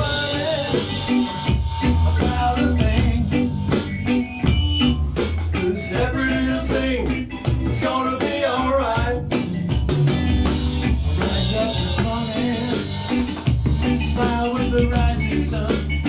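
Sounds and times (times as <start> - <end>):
live reggae band playing: 0.0 - 16.0.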